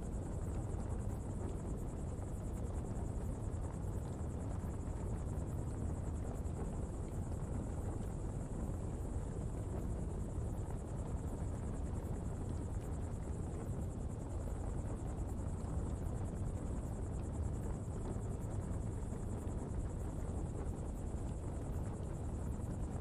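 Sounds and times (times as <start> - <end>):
faint fire crackles: 0.0 - 23.0
low rumble of flames: 0.0 - 23.0.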